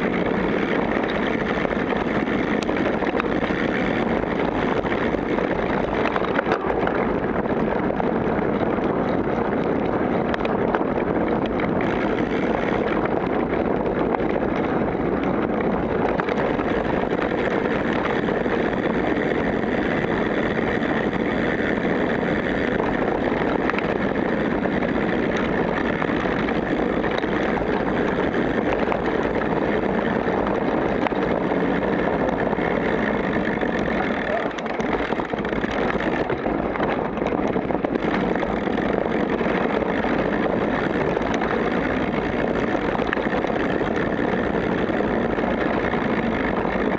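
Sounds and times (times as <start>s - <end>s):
bike tyres rattling on dirt: 0.0s - 46.9s
wind noise on microphone: 0.0s - 46.9s.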